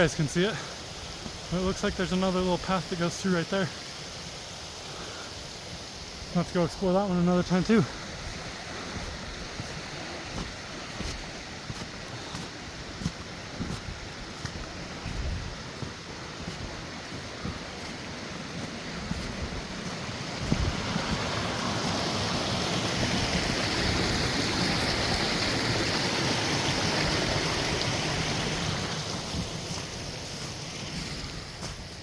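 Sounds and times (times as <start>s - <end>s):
rushing creek water: 0.0s - 32.0s.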